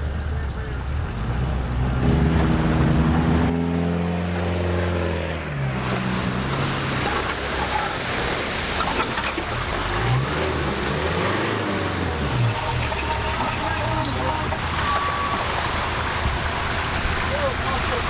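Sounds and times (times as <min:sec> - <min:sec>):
vehicle engine running: 0:00.0 - 0:03.6, 0:05.8 - 0:18.0.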